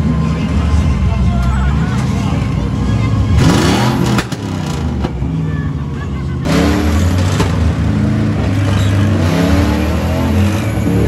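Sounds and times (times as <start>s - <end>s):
monster truck engines revving: 0.0s - 11.0s.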